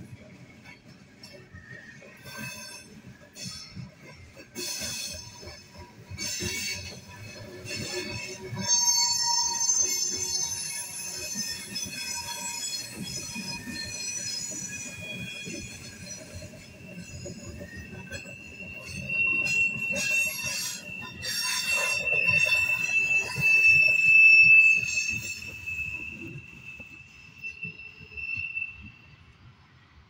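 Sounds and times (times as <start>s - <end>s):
train wheels rumbling and clattering: 0.0s - 30.0s
wheel flange squeal: 0.2s - 29.4s.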